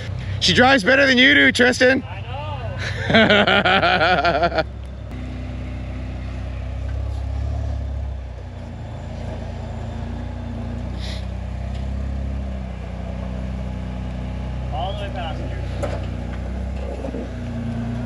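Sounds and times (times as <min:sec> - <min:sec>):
engine running at low revs: 0:00.0 - 0:18.0.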